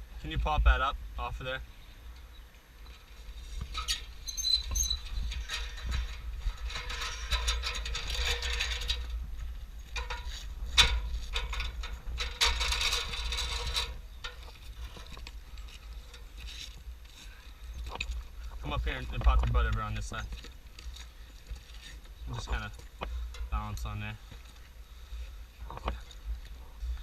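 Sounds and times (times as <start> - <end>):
ladder rattling and scraping: 2.9 - 24.5.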